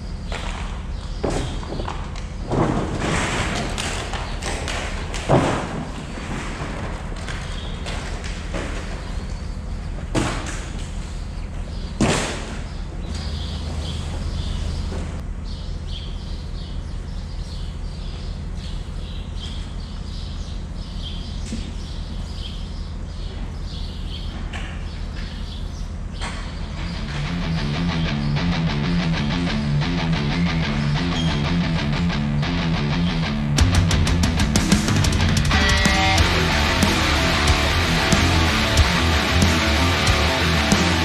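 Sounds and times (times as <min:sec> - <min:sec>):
steady low hum: 0:04.6 - 0:41.0.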